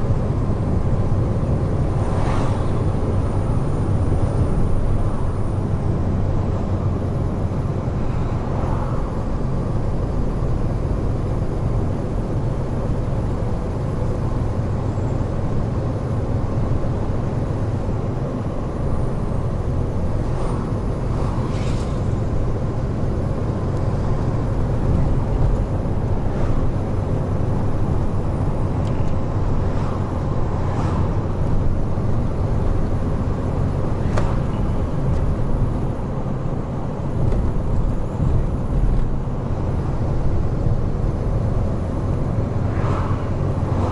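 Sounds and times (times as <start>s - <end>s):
truck diesel engine cruising: 0.0s - 43.9s
tyre noise on road: 0.0s - 43.9s.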